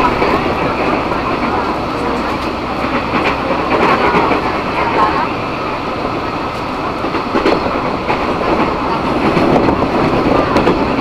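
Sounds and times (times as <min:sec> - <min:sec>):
sharp rail clacks: 0:00.0 - 0:05.4, 0:06.5 - 0:11.0
train wheels rumbling on rails: 0:00.0 - 0:11.0.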